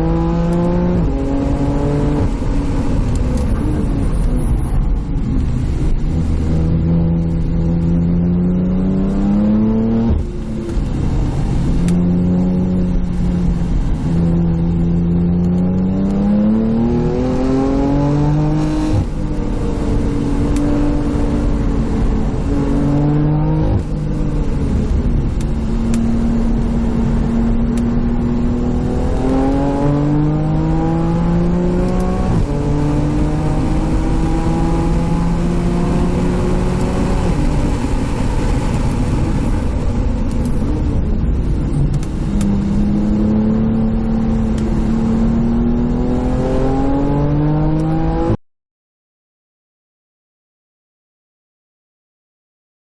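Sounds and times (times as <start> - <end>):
car engine accelerating: 0.0 - 48.4.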